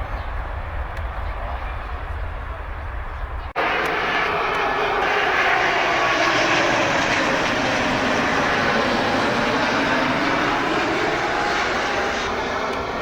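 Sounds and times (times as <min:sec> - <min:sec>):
jet engines roaring: 0:00.3 - 0:13.0.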